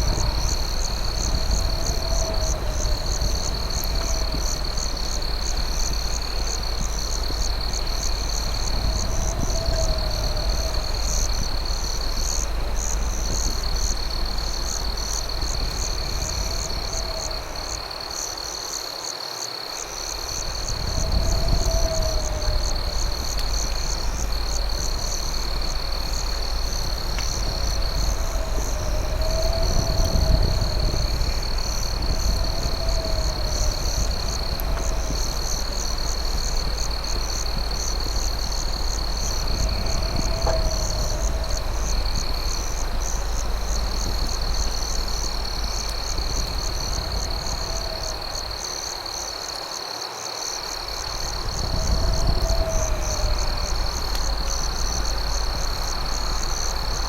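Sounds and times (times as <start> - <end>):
low steady rumble: 0.0 - 18.4, 20.0 - 49.1, 50.9 - 57.0
crickets trilling: 0.0 - 57.0
fast cricket chirping: 0.0 - 57.0.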